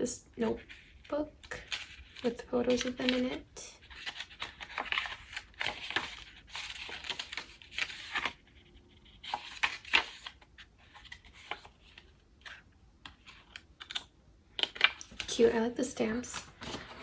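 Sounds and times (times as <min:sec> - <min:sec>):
paper pages turning: 0:00.5 - 0:17.0.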